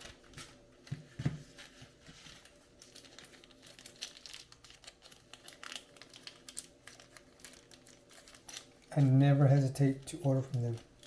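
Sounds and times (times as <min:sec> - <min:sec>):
packaging crinkling: 0:01.4 - 0:11.0.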